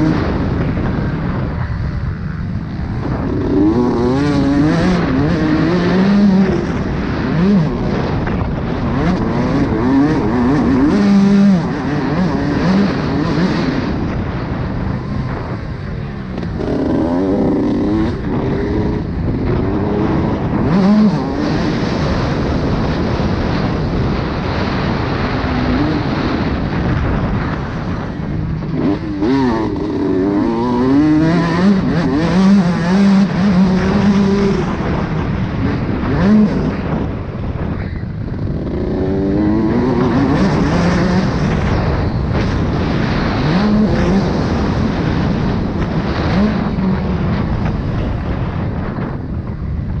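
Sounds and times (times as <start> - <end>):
motocross bike engine revving: 0.0 - 49.0
wind rushing over microphone: 0.0 - 50.0.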